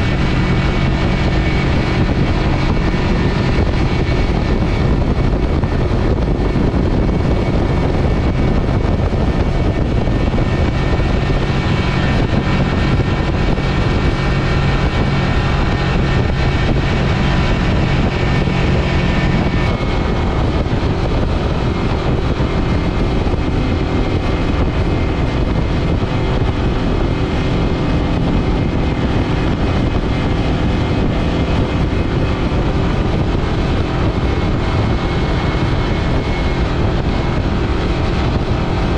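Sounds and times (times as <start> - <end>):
outboard motor running fast: 0.0 - 38.9.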